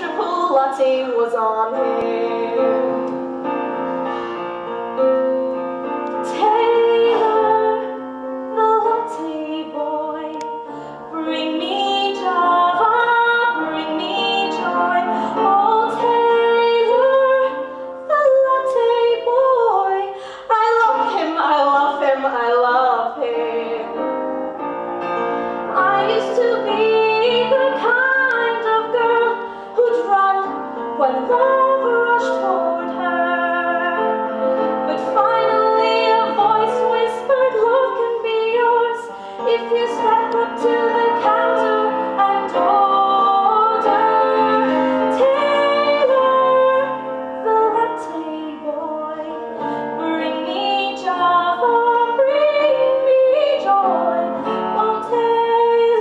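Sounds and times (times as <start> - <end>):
woman singing with vibrato: 0.0 - 3.0, 6.2 - 24.3, 25.7 - 56.0
instrumental backing music: 0.0 - 56.0.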